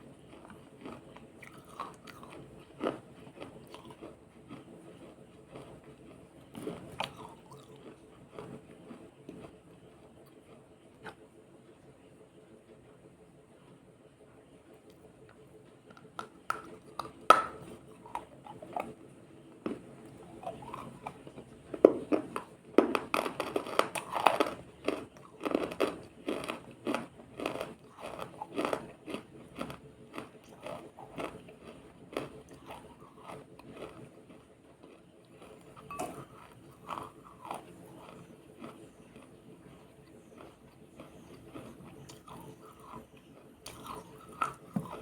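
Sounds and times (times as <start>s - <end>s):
ice crunching while chewed: 0.0s - 11.2s, 14.9s - 45.0s.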